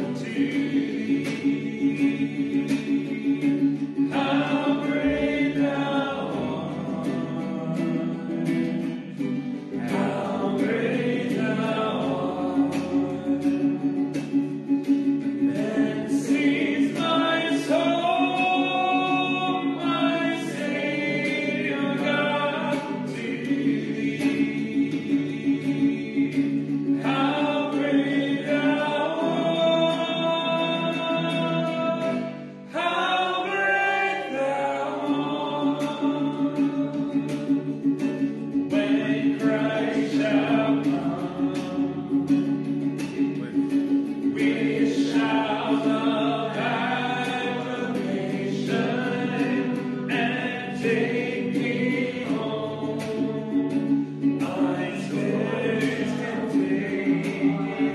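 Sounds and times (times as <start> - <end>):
church voices singing a hymn: 0.0 - 57.9.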